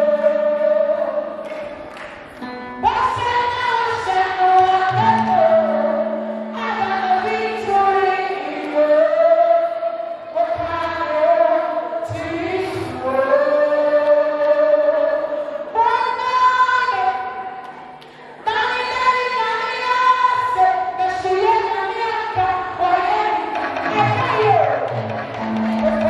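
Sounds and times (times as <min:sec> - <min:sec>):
girl singing gospel into microphone: 0:00.0 - 0:26.0.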